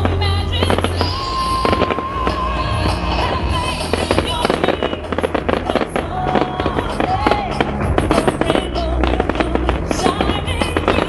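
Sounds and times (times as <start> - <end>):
fireworks bursting and crackling: 0.0 - 11.0
music with held notes: 0.0 - 11.0.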